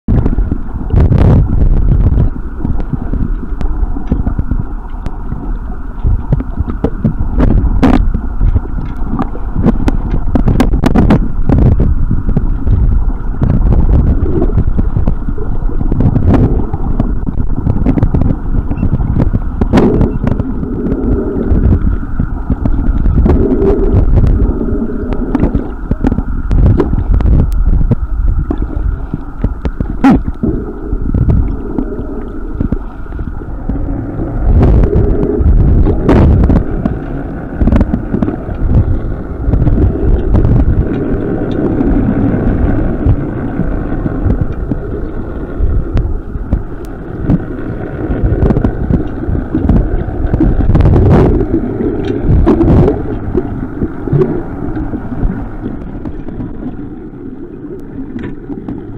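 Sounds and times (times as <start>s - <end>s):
underwater rumble of water: 0.0s - 58.9s
sharp underwater clicks: 0.1s - 58.9s.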